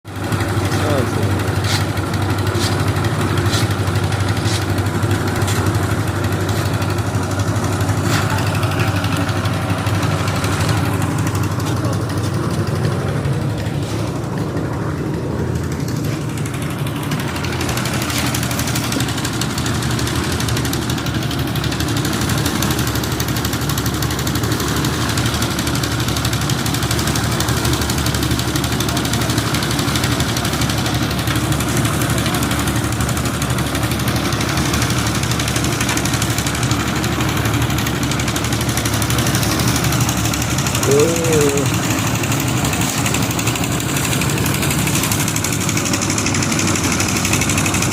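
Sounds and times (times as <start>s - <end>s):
construction machinery engine chugging: 0.1s - 47.9s.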